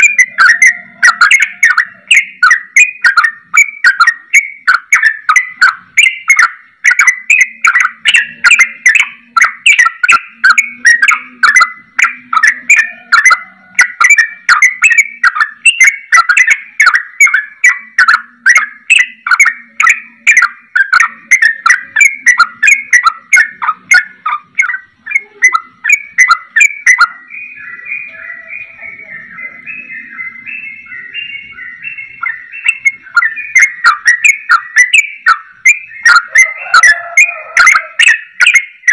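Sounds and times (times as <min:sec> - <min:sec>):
bulbul singing chattering notes: 0:00.0 - 0:38.9.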